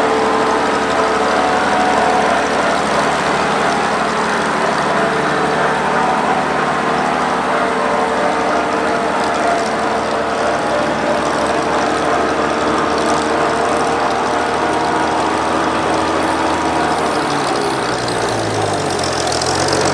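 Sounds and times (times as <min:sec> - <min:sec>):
combine harvester droning: 0:00.0 - 0:19.9.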